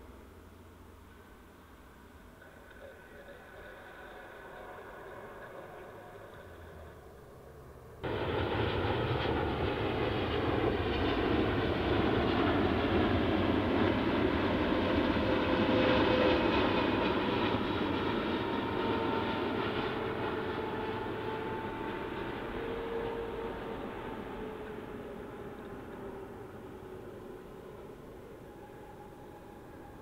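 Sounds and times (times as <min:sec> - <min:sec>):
jet engine rushing with whine: 0:02.4 - 0:30.0.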